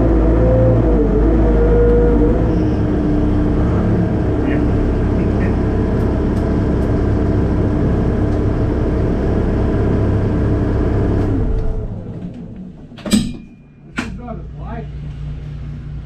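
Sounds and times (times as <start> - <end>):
vehicle engine running: 0.0 - 13.0, 13.6 - 16.0.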